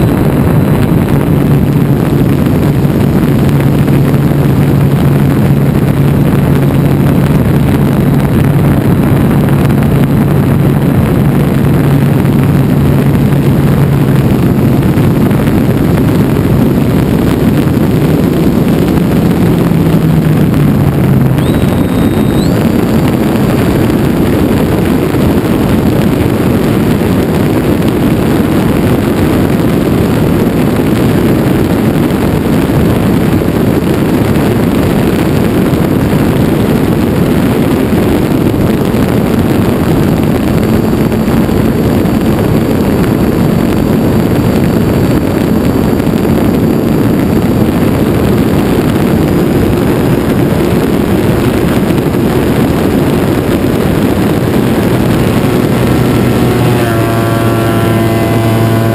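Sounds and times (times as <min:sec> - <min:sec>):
aircraft engine drone: 0:00.0 - 0:58.9
airflow rushing over microphone: 0:00.0 - 0:58.9.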